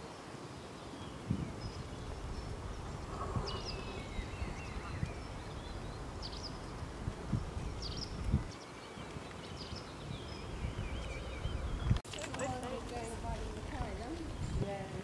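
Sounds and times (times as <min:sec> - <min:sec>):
small birds chirping: 0:00.0 - 0:15.0
low wind rumble: 0:00.2 - 0:15.0.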